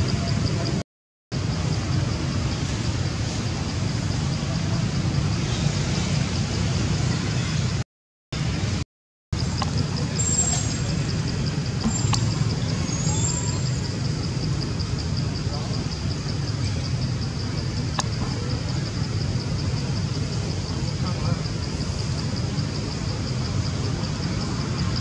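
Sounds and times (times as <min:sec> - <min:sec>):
distant road traffic rumble: 0:00.0 - 0:00.8, 0:01.4 - 0:07.8, 0:08.4 - 0:08.8, 0:09.4 - 0:25.0.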